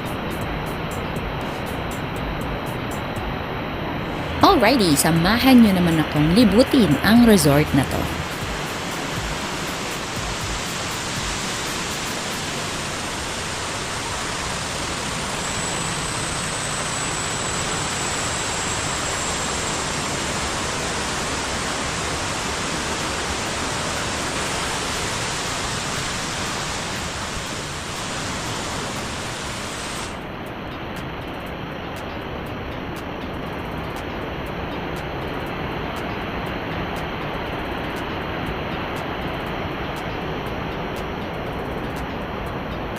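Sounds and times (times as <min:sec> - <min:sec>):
rushing waterfall water: 0:08.0 - 0:42.9.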